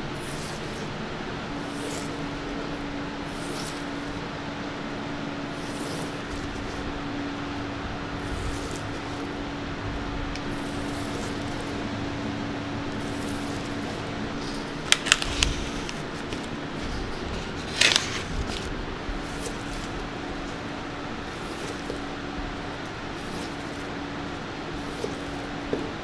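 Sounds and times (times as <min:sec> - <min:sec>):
fan humming: 0:00.0 - 0:26.0.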